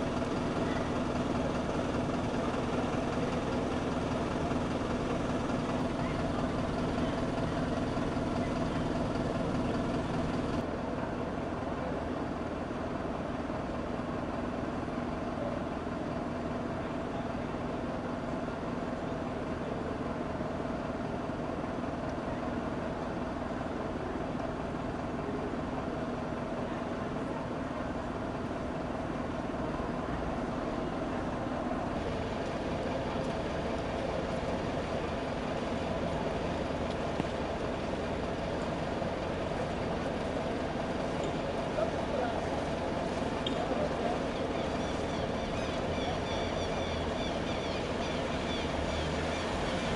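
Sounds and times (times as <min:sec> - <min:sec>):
vehicle engines humming: 0:00.0 - 0:10.7, 0:12.2 - 0:49.9.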